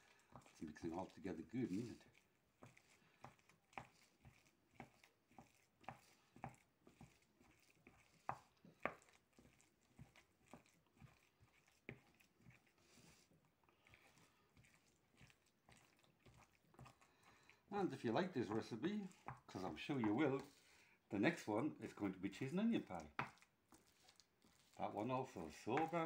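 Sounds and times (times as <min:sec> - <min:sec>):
food mixing squelches: 0:00.0 - 0:26.0.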